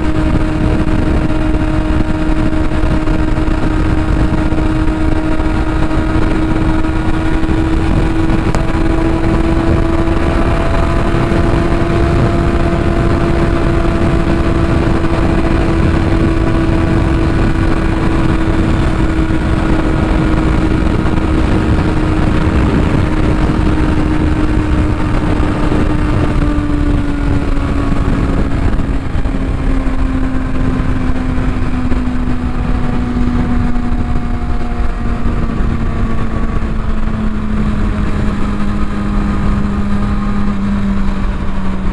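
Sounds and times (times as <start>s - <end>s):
motorcycle engine: 0.0s - 41.9s
wind noise on microphone: 0.0s - 41.9s.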